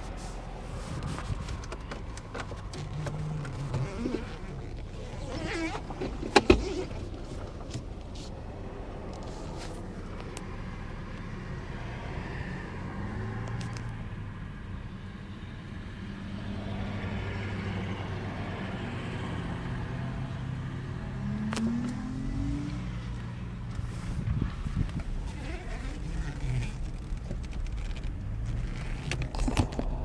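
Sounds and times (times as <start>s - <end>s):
traffic engine hum: 0.0s - 30.0s.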